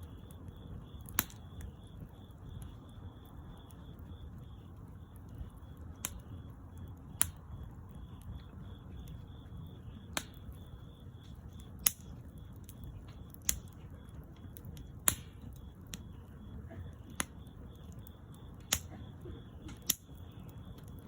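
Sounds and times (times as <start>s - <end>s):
low rush of burning: 0.0s - 21.0s
wood fire popping: 0.0s - 21.0s.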